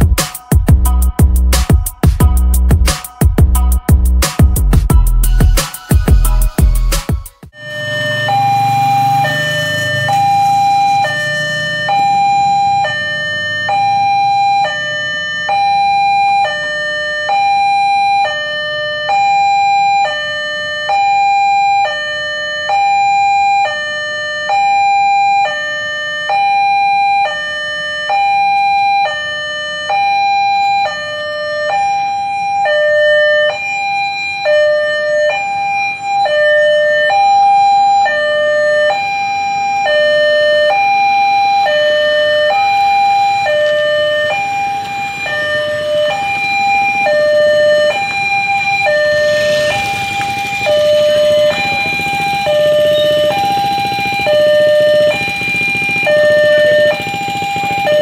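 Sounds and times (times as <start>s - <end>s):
level crossing two-tone alarm: 5.0s - 58.0s.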